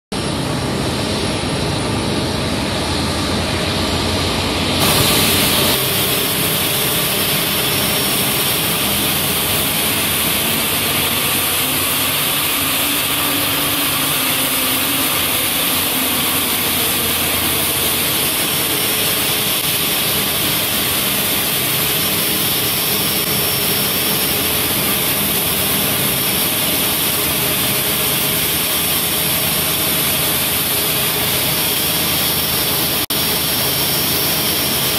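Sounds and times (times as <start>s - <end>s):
jet engines idling: 0.2s - 34.9s.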